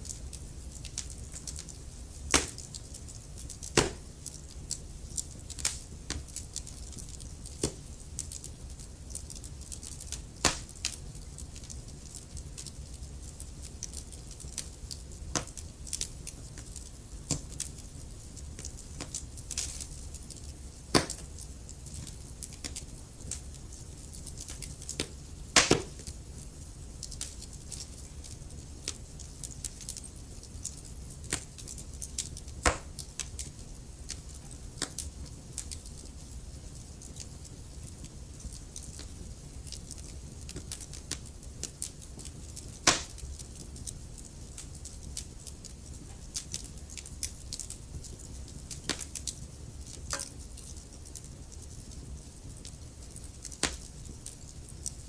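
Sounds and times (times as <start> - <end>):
fire crackling and popping: 0.0 - 55.0
low rumble of flame: 0.0 - 55.0.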